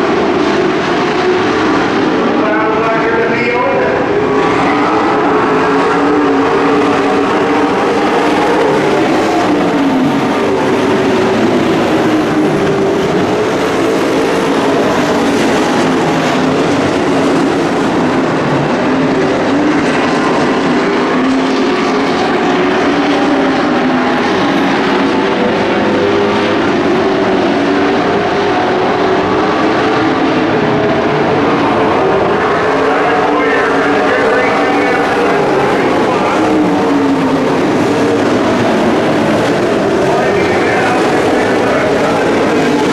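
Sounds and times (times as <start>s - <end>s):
racing truck engines: 0.0s - 42.9s.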